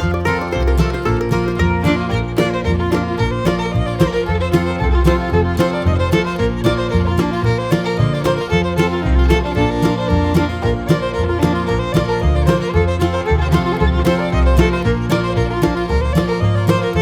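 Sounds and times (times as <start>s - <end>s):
upbeat bluegrass music: 0.0s - 17.0s.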